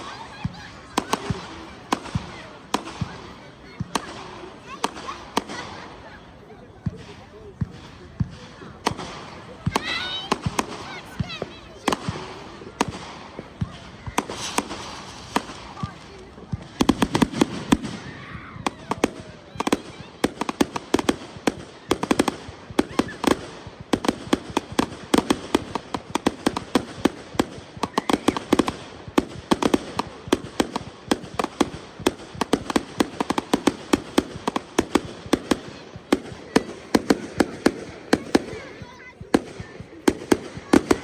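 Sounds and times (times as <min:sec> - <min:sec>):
fireworks bangs and cracks: 0:00.0 - 0:41.0.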